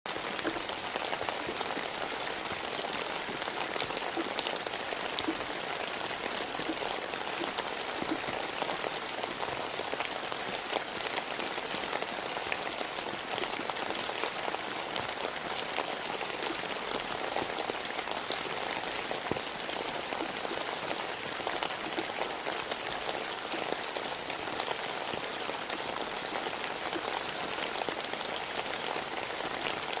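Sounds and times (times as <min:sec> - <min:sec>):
steady rain: 0:00.1 - 0:30.0.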